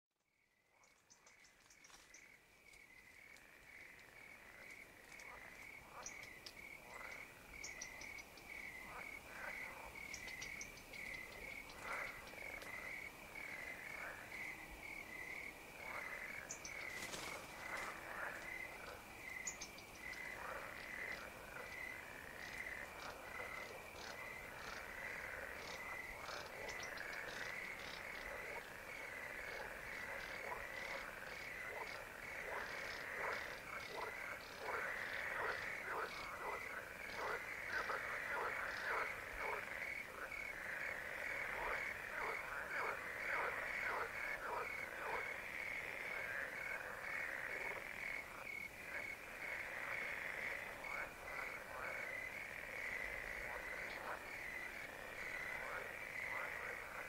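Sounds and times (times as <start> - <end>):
frogs calling: 0.3 - 57.0
crickets trilling: 0.9 - 57.0.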